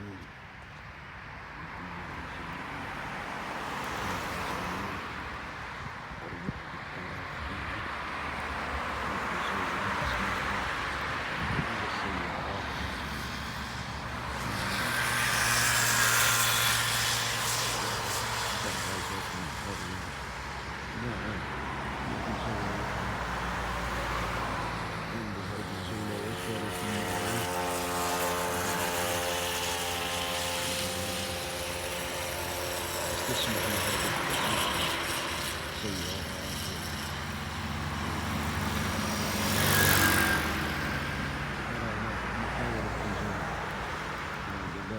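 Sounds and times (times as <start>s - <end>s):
steady engine hum: 0.0s - 44.9s
motor vehicle passing: 1.8s - 44.9s.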